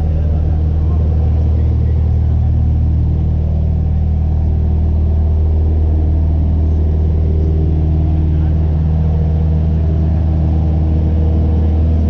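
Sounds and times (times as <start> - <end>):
small airplane engine droning: 0.0 - 12.0.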